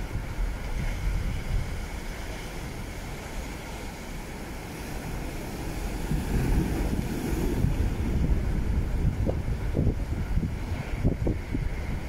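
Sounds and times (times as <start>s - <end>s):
sea waves breaking on rocks: 0.0s - 12.0s
wind buffeting microphone: 0.0s - 12.0s.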